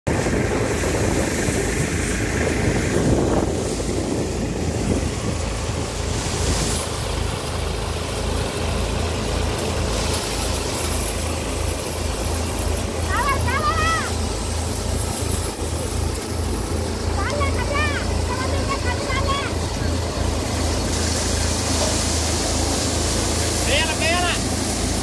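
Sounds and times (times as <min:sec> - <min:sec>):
crop rushing into thresher: 0:00.1 - 0:25.0
thresher running: 0:00.1 - 0:25.0
tractor engine: 0:00.1 - 0:25.0.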